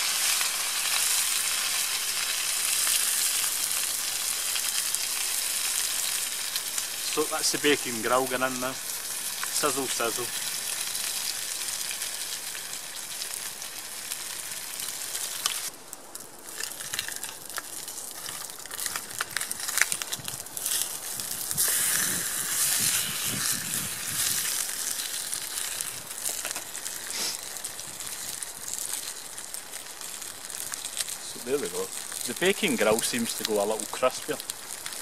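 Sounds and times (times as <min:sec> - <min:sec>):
fat crackling and spitting: 0:00.0 - 0:35.0
meat sizzling in a pan: 0:00.0 - 0:35.0.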